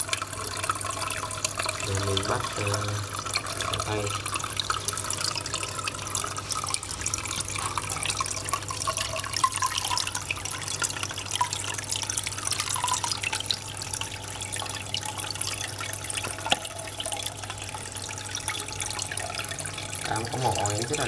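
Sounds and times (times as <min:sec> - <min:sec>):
water sloshing and dripping: 0:00.0 - 0:21.0.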